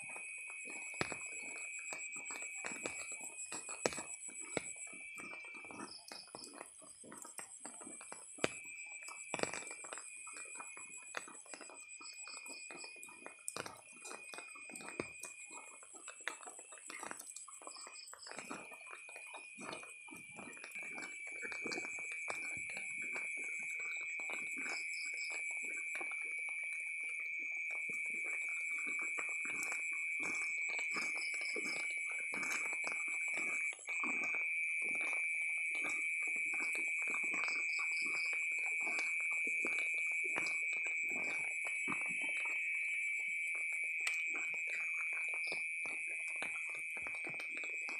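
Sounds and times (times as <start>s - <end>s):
chorus of night insects: 0.0s - 47.9s
pulsing insect trills: 0.0s - 47.9s.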